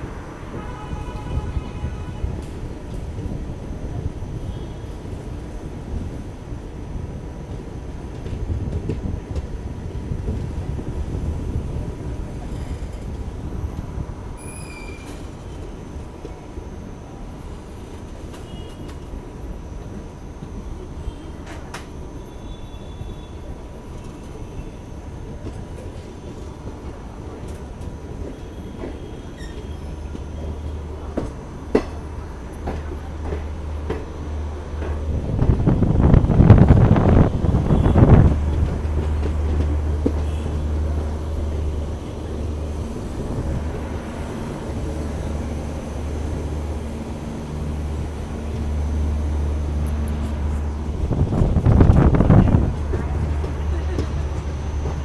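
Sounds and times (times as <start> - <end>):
train rumbling: 0.0 - 55.0
train rushing noise: 0.0 - 55.0.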